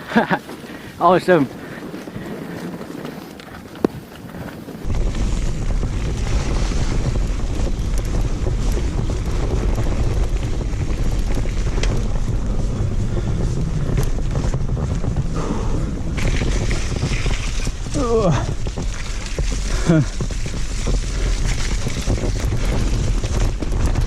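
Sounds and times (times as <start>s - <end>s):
bike rattles and knocks: 0.0s - 24.0s
wind buffeting microphone: 0.0s - 24.0s.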